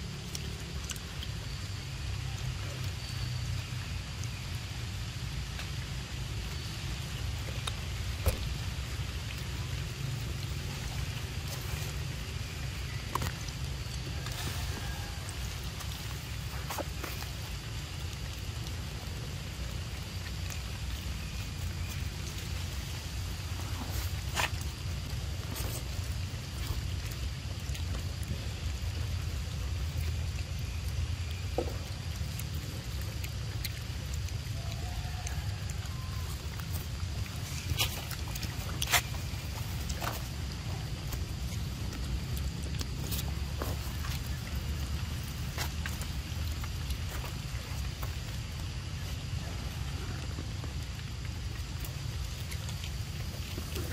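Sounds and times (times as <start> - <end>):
steady low rumble: 0.0 - 53.9.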